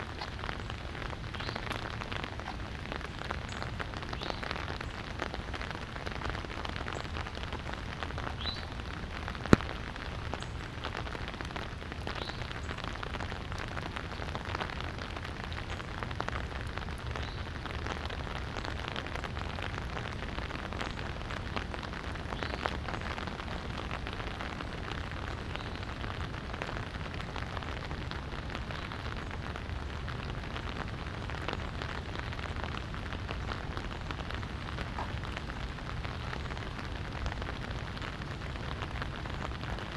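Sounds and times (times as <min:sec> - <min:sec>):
light rain falling: 0:00.0 - 0:39.9
raindrops ticking on surfaces: 0:00.0 - 0:39.9.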